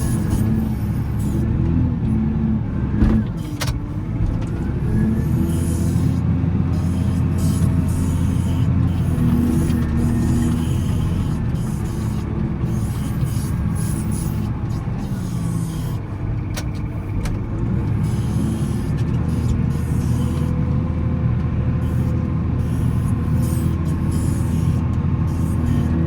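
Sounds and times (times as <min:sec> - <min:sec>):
wheel loader diesel engine: 0:00.0 - 0:26.0.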